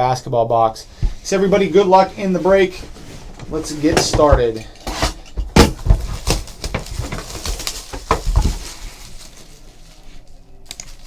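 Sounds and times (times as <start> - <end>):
plastic wrap crinkling: 0.9 - 11.0.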